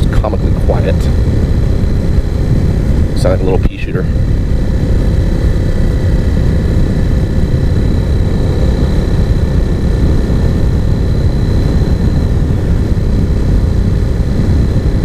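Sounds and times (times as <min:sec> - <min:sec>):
motorcycle engine droning: 0:00.0 - 0:15.0
wind rush on microphone: 0:00.0 - 0:15.0.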